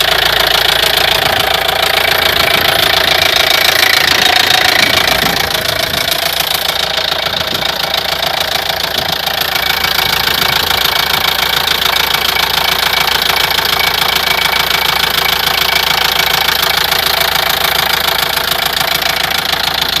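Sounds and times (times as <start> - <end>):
diesel engine running: 0.0 - 20.0
engine knocking: 0.0 - 20.0.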